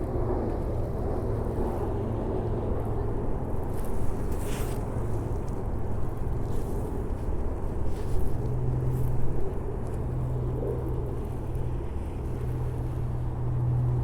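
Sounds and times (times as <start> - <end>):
city traffic rumble: 0.0 - 14.0
constant low drone: 0.0 - 14.0.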